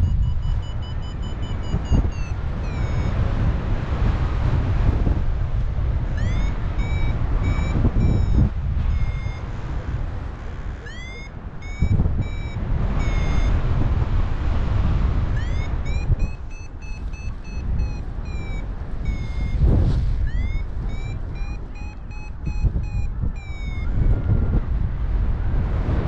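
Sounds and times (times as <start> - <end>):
variometer beeping: 0.0 - 24.7
wind noise on microphone: 0.0 - 26.0.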